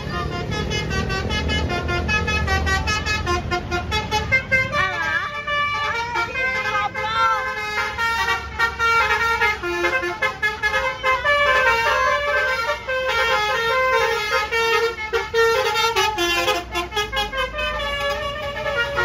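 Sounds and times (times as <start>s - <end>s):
bus engines running: 0.0s - 19.0s
musical air horn tune: 0.0s - 19.0s.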